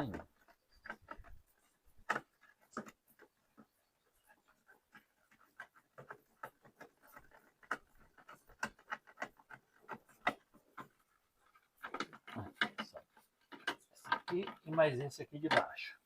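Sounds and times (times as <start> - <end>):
hand tools clicking and tapping: 0.0 - 16.0.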